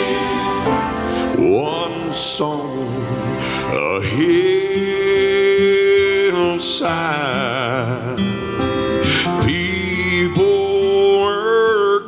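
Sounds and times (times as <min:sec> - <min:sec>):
man singing gospel song: 0:00.0 - 0:08.4, 0:09.0 - 0:12.0.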